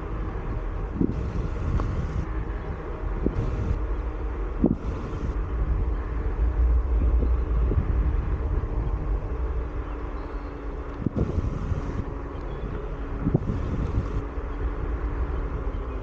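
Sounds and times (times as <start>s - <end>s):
faint motor hum: 0.0s - 16.0s.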